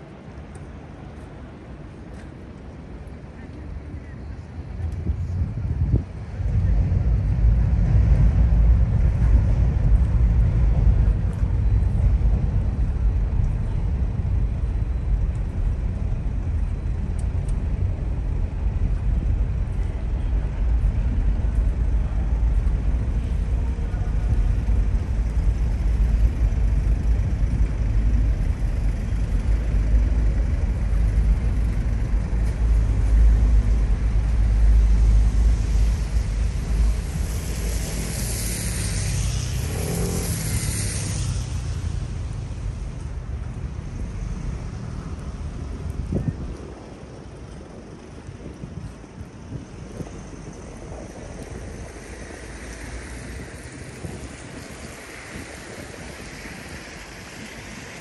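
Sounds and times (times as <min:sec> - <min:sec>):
deep city rumble: 0:00.0 - 0:58.0.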